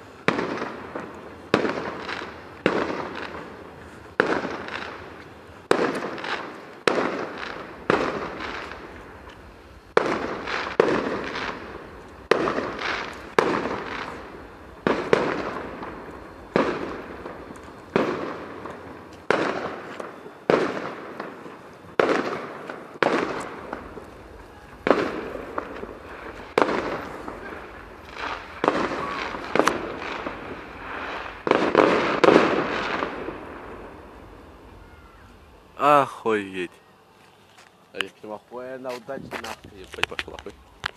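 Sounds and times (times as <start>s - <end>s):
fireworks banging: 0.0s - 36.7s, 38.0s - 40.9s.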